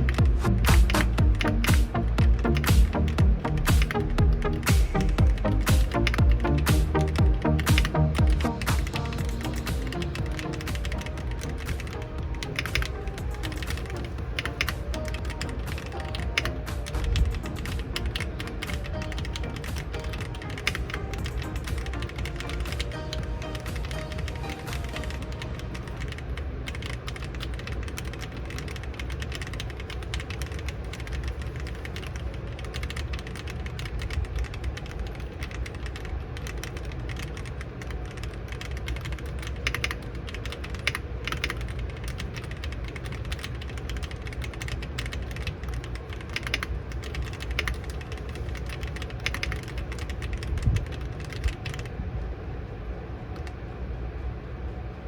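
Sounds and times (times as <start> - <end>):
keyboard typing: 0.0 - 52.0.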